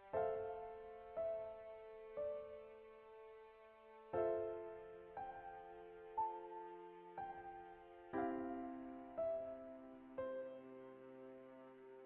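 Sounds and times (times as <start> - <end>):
slow gentle piano: 0.0 - 12.0.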